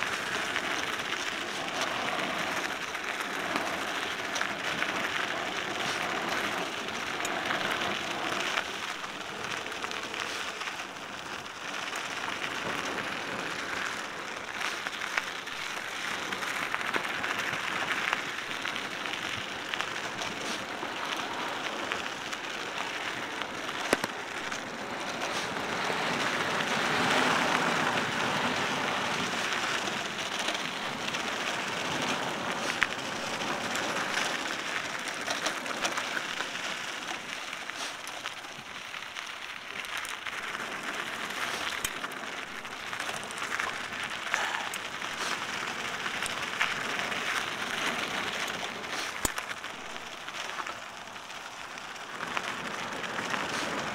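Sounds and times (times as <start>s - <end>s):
bike clicks and rattles: 0.0s - 53.9s
bike tyres crunching on dirt: 0.0s - 53.9s.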